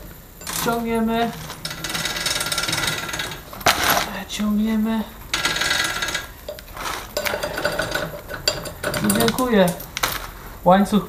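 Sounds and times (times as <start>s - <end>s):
drive chain links clinking and rattling: 0.0s - 10.5s.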